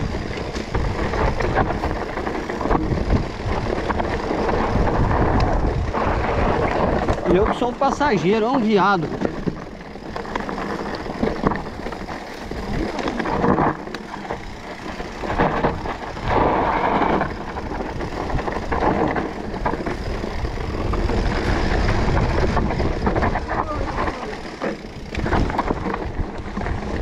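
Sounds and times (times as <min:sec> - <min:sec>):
bike rumbling on dirt trail: 0:00.0 - 0:27.0
wind buffeting microphone: 0:00.0 - 0:27.0.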